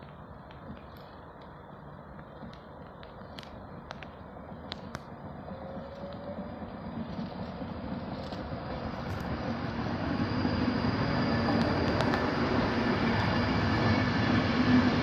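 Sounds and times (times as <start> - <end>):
electric train rumble and hum: 0.0 - 15.0.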